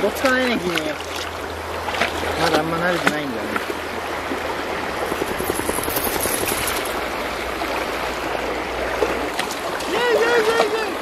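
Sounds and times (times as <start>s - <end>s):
river running over rocks: 0.0s - 11.0s.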